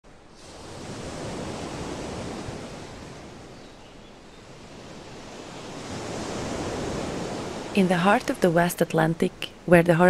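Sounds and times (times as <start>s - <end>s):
ocean surf washing onto beach: 0.1s - 3.7s, 4.4s - 9.8s.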